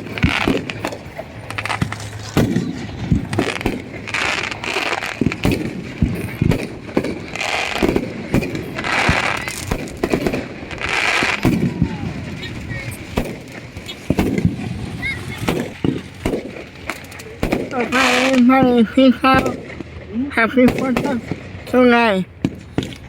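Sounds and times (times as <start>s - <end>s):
fireworks bangs and pops: 0.0s - 23.0s
fireworks crackling hiss: 0.0s - 23.0s.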